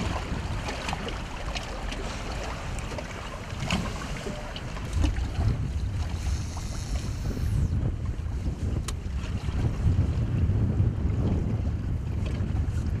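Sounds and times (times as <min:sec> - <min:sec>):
water slapping hull: 0:00.0 - 0:13.0
wind buffeting microphone: 0:00.0 - 0:13.0.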